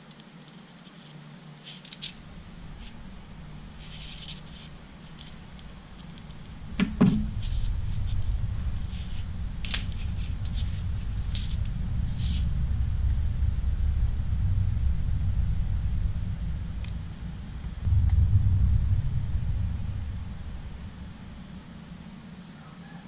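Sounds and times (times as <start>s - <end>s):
low rumble: 2.1s - 23.0s.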